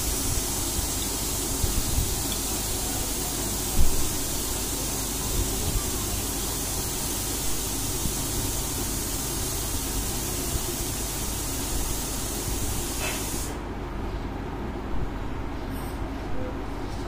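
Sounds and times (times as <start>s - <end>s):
loud steady hiss: 0.0s - 13.7s.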